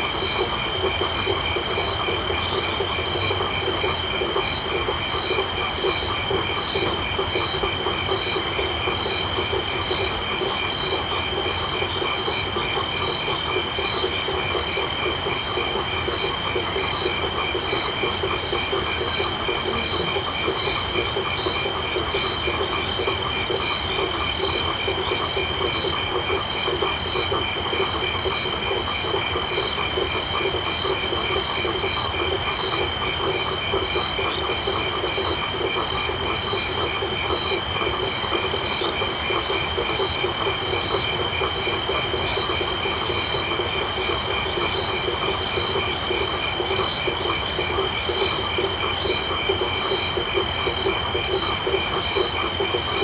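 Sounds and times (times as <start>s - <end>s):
insect trills: 0.0s - 52.8s
frogs calling: 0.0s - 53.0s.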